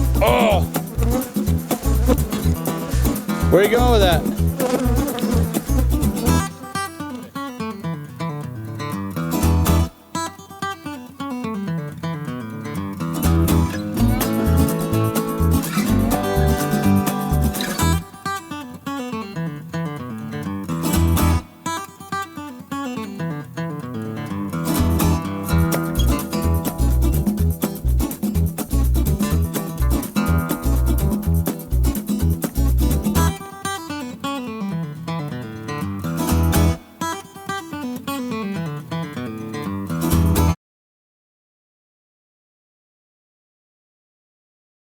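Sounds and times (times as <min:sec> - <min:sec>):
acoustic guitar with bass: 0:00.0 - 0:40.6.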